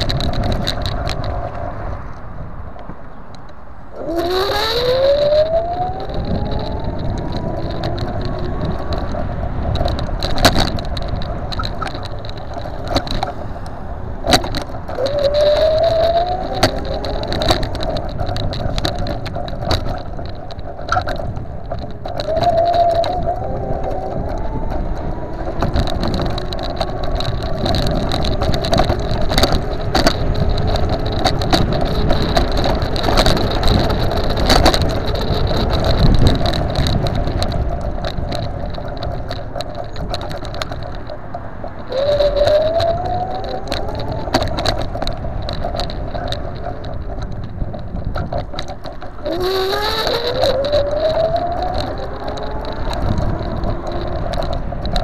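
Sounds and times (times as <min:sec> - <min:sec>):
knocks and rattles over bumps: 0:00.0 - 0:55.0
low rumble from wheels: 0:00.0 - 0:55.0
electric scooter motor whine: 0:03.2 - 0:55.0.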